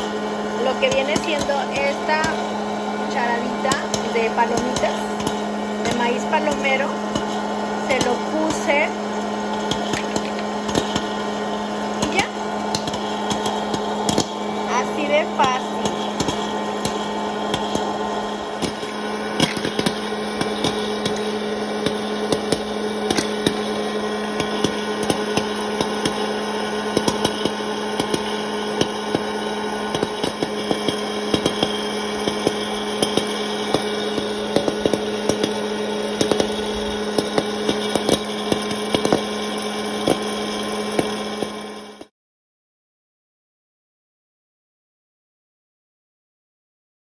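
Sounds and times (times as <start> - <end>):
popcorn machine blower hum: 0.0 - 42.1
corn kernels popping: 0.6 - 42.1.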